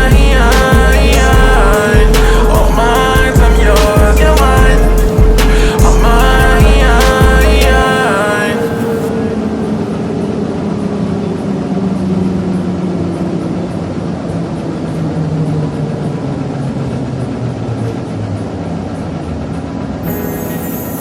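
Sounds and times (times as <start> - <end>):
vehicle ride rumble: 0.0 - 20.1.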